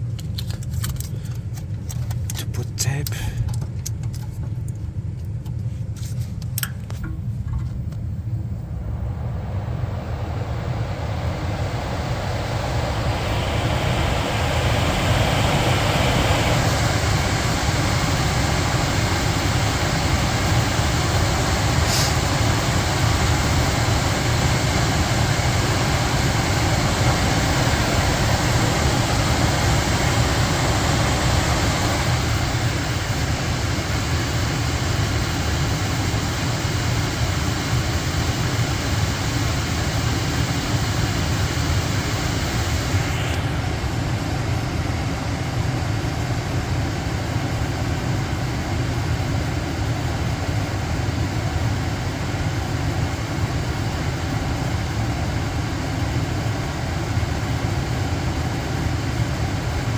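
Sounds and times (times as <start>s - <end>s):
furnace blower fan running: 0.0s - 59.9s.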